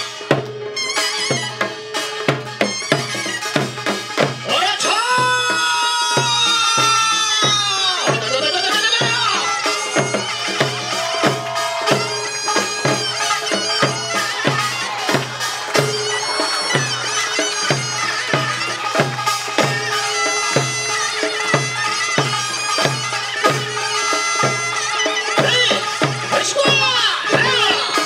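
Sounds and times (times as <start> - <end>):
barrel drums beating: 0.0 - 28.0
reedy shawm melody: 0.0 - 28.0.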